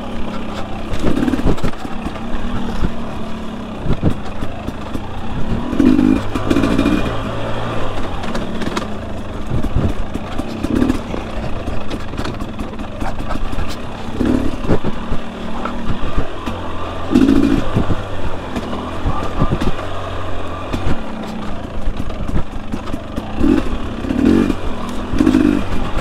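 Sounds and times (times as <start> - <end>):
bike knocking and clattering: 0.0 - 26.0
dirt bike engine revving: 0.0 - 26.0.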